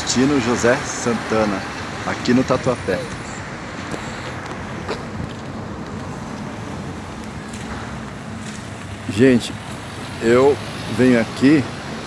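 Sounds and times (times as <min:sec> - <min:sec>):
city traffic hum: 0:00.0 - 0:12.0.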